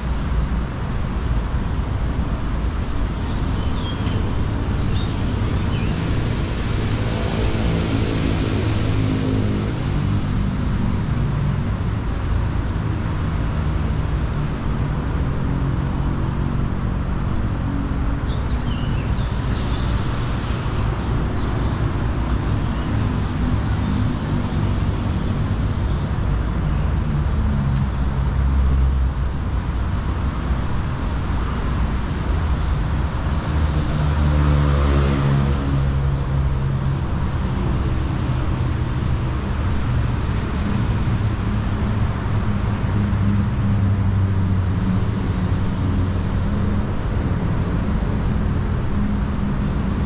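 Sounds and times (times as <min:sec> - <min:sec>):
road traffic rumbling: 0:00.0 - 0:50.0.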